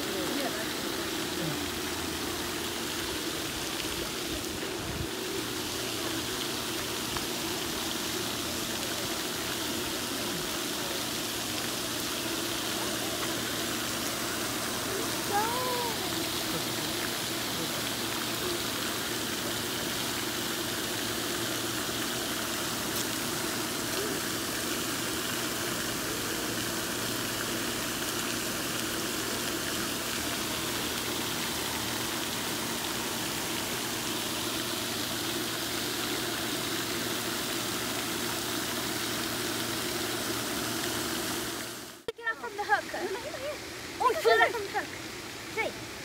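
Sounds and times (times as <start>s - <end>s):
water-like rushing noise: 0.0s - 46.0s.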